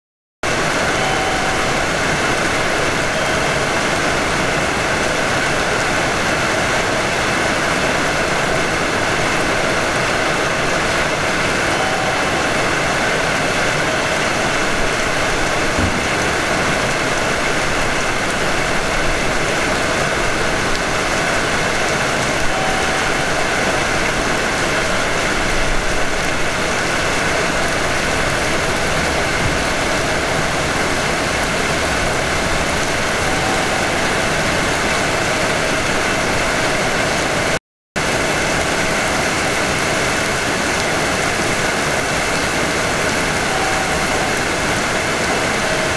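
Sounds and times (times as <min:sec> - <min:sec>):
electric train hum and hiss: 0:00.5 - 0:37.5, 0:38.1 - 0:45.9.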